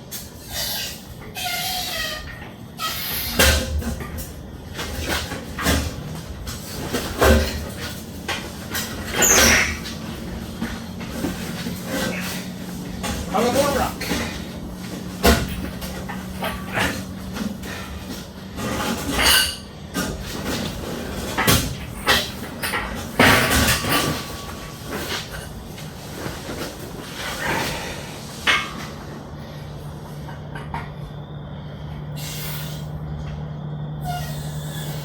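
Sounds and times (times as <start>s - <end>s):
metal clanks and scraping: 0.0s - 31.1s.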